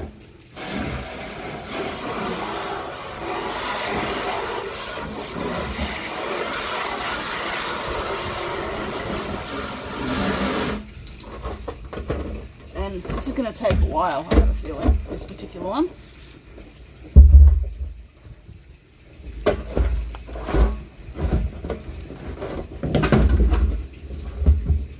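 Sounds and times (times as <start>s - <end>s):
hose spraying water in plastic drum: 0.0s - 24.9s.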